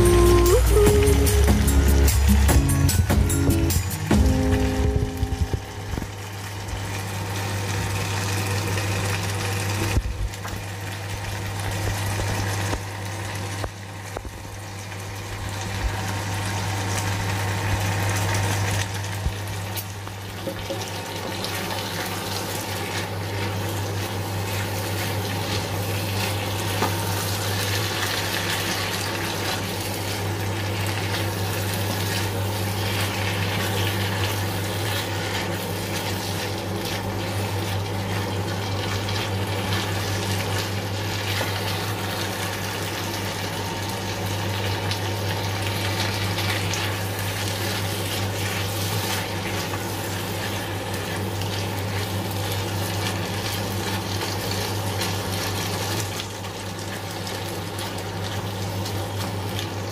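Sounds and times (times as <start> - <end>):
food bubbling and sizzling in a wok: 4.8 - 59.9.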